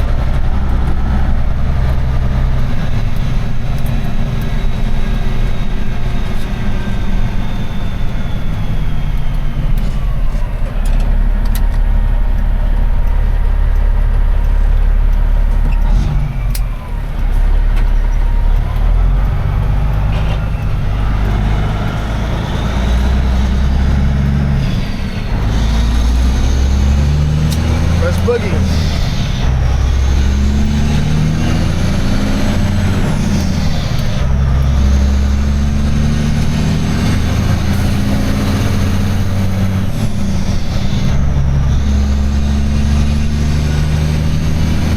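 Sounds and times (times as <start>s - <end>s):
truck diesel engine rumbling: 0.0s - 44.9s.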